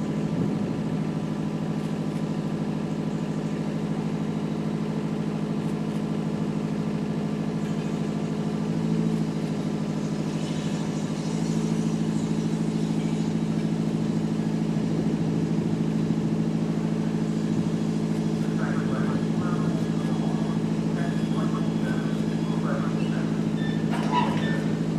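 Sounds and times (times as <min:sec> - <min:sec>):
diesel locomotive engine running: 0:00.0 - 0:24.9.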